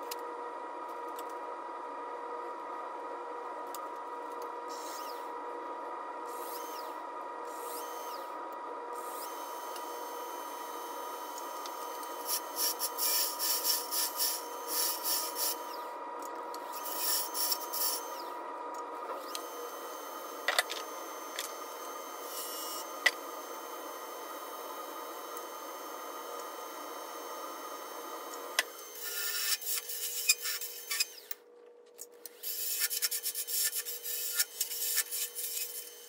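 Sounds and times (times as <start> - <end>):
wood lathe motor whine: 4.3 - 31.4, 32.3 - 36.0.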